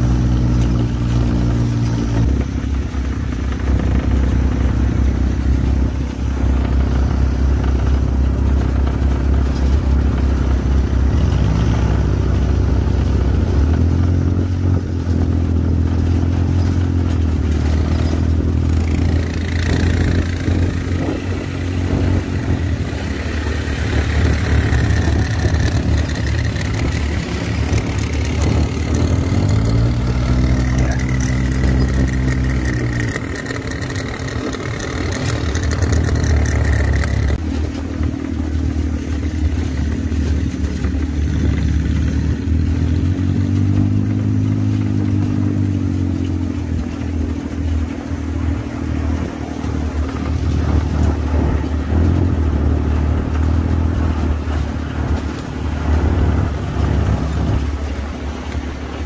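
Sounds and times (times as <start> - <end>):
buggy engine revving: 0.0 - 59.0.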